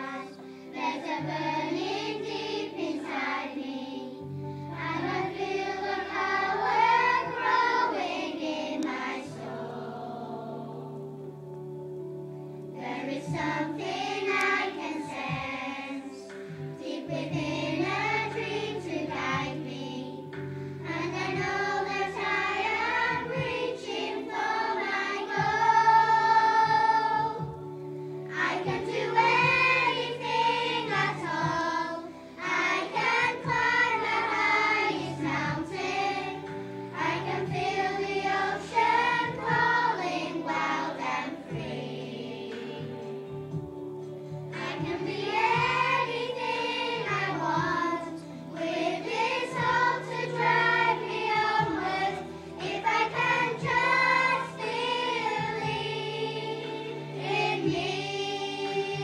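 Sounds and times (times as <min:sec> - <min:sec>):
children's choir singing: 0:00.0 - 0:11.5, 0:12.7 - 0:59.0.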